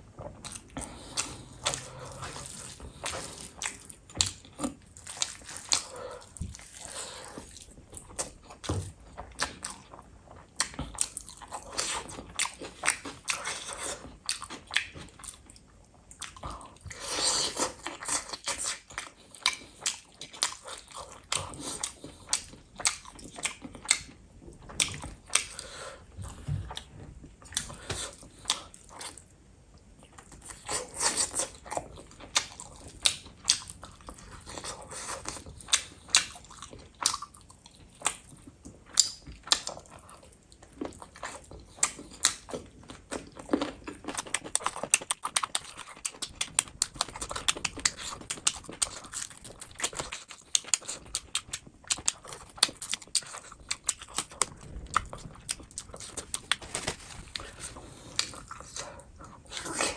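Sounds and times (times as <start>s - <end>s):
wet chewing and lip-smacking: 0.2s - 29.3s, 30.0s - 59.9s.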